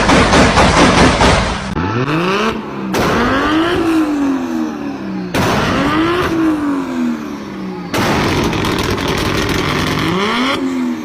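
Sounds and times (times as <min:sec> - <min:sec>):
full-throttle engine noise: 0:00.0 - 0:11.0
car engine revving: 0:01.6 - 0:11.0.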